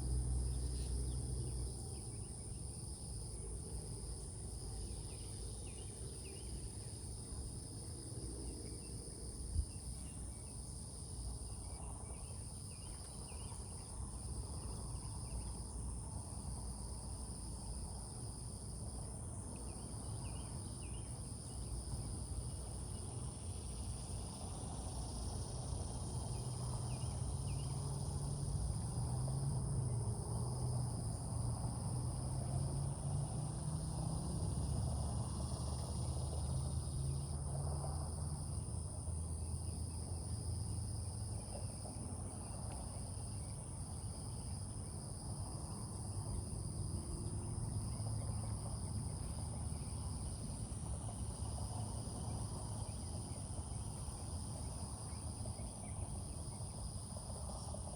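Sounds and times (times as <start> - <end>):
insect chorus: 0.0 - 57.9.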